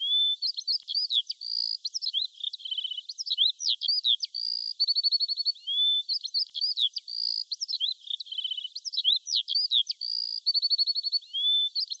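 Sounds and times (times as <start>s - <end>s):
birdsong whistles and trills: 0.0s - 12.0s.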